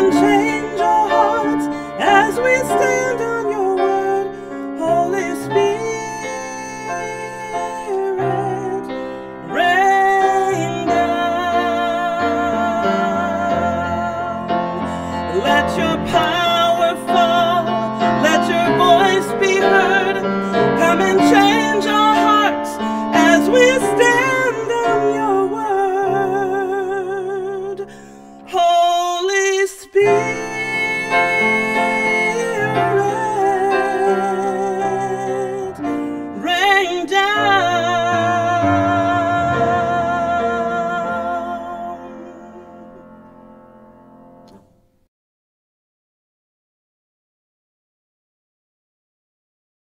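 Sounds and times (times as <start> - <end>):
woman singing a hymn: 0.0 - 14.6, 15.2 - 43.0
piano accompaniment: 0.0 - 45.0.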